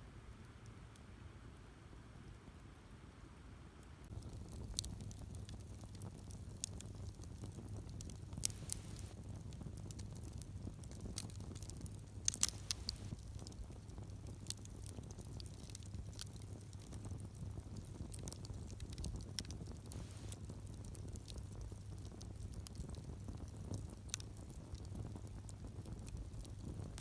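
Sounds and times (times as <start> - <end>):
campfire crackling and popping: 4.0 - 27.0.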